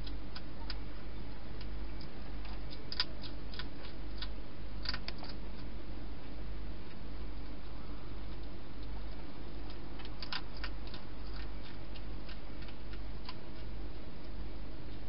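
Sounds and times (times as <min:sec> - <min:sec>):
hedgehog crunching food: 0:00.0 - 0:14.4
low hum: 0:00.0 - 0:15.0.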